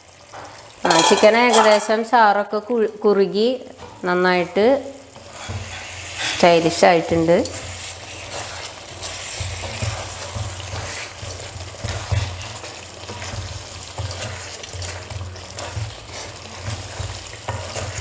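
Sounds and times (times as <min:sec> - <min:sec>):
gravy sizzling: 0:00.0 - 0:18.0
spoon scraping a pan: 0:00.4 - 0:02.0, 0:03.8 - 0:18.0.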